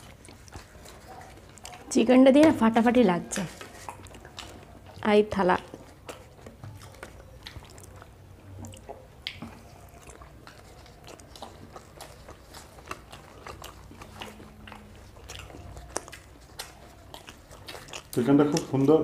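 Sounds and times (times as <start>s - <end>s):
people chewing and biting: 0.0s - 19.0s
wet smacks and clicks: 0.0s - 19.0s.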